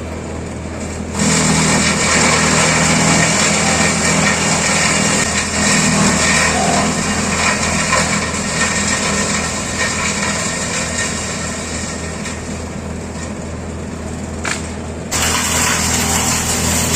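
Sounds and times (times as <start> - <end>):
wood shredder grinding wood: 0.1 - 16.9.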